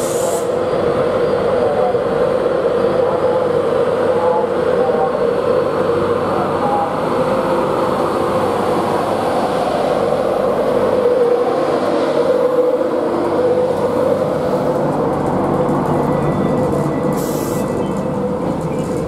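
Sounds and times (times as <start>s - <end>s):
electric train passing rumble: 0.0s - 19.0s.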